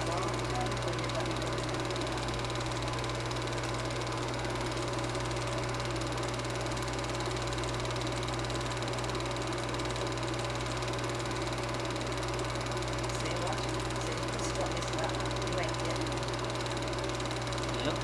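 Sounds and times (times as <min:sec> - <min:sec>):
film projector running: 0:00.0 - 0:18.0.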